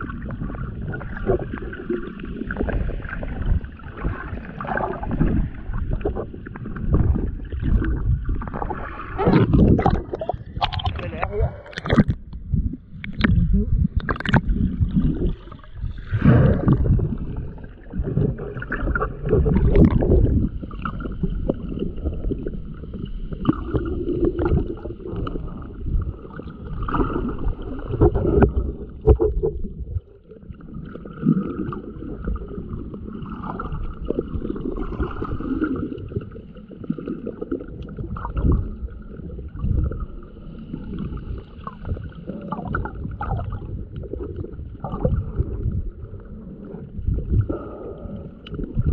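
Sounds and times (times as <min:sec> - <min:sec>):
muffled underwater sloshing: 0:00.0 - 0:48.9.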